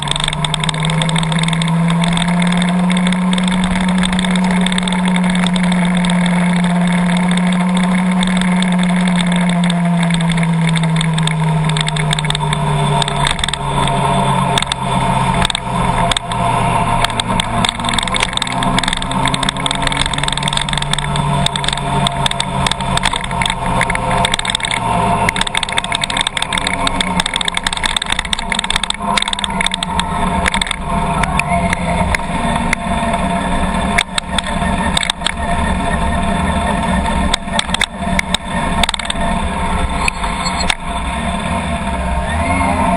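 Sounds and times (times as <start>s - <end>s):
sharp taps and clicks: 0.0s - 36.0s, 36.6s - 40.9s
car engine running: 0.0s - 42.9s.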